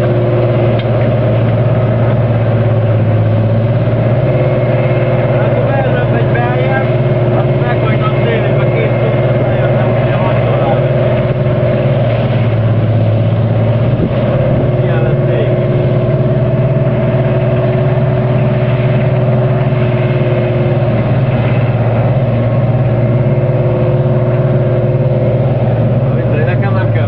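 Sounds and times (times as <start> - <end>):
engine humming: 0.0 - 27.0.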